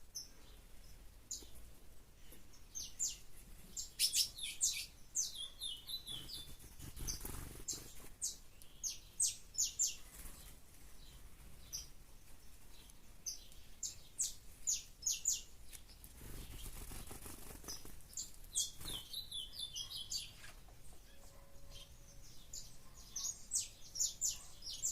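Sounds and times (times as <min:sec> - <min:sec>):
songbird singing: 0:00.0 - 0:24.9.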